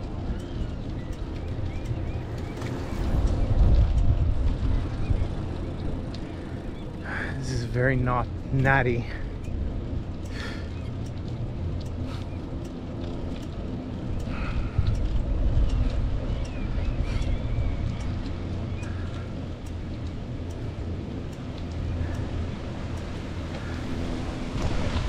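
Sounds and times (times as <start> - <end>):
bicycle clicks and rattles: 0.0 - 25.0
wind rushing over microphone: 0.0 - 25.0.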